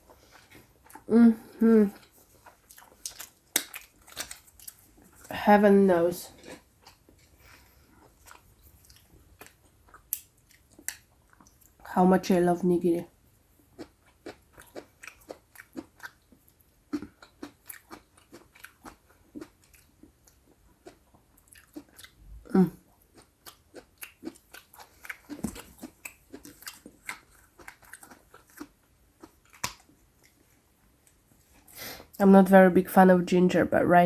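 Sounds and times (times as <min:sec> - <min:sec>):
wet crunchy chewing: 0:00.0 - 0:05.3, 0:06.3 - 0:11.6, 0:13.5 - 0:30.8.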